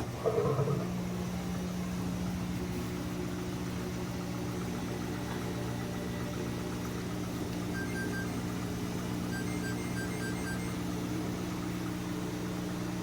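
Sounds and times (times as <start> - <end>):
washing machine spinning: 0.8 - 13.0.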